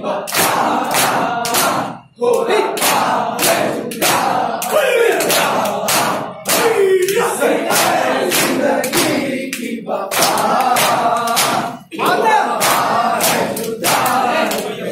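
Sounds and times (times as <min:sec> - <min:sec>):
men chanting loudly: 0:00.0 - 0:14.9
men slapping chests: 0:00.3 - 0:14.8.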